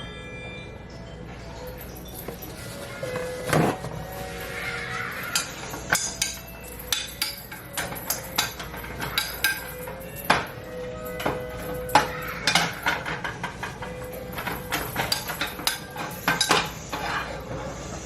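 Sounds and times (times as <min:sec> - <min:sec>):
dishes and cutlery clinking: 0:01.6 - 0:18.0.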